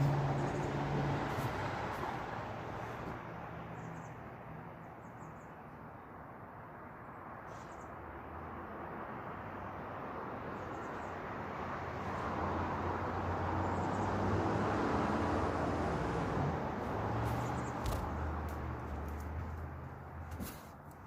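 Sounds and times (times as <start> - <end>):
vehicle passing by: 0.0 - 4.7, 7.3 - 20.9.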